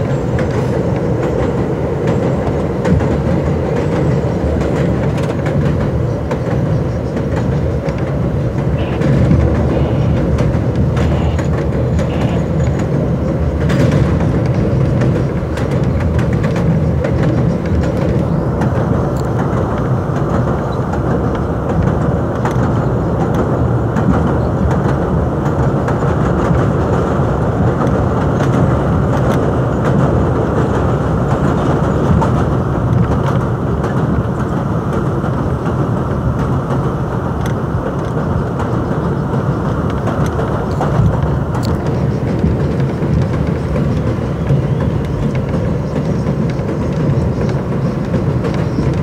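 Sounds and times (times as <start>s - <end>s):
subway wheels rumbling on rails: 0.0s - 49.0s.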